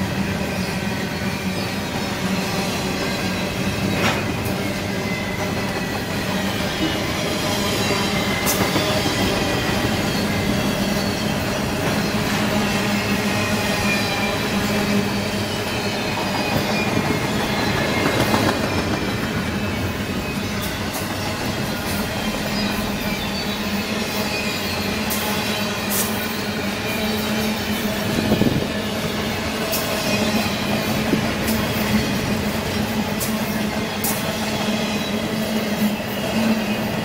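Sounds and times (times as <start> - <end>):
high wheel squeal: 0.0 - 37.0
train wheels rumbling on rail: 0.0 - 37.0.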